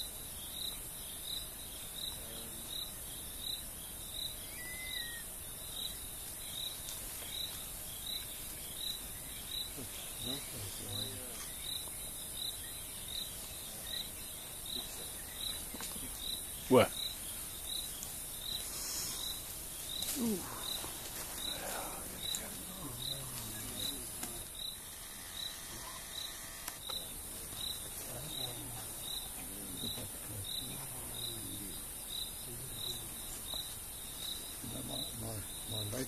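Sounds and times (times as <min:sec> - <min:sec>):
insect chirping: 0:00.0 - 0:36.0.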